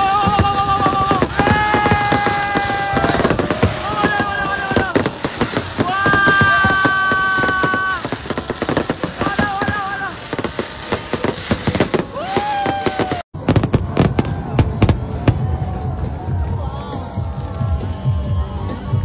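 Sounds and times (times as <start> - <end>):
fireworks crackling and banging: 0.0 - 16.6
people whooping: 0.0 - 19.0.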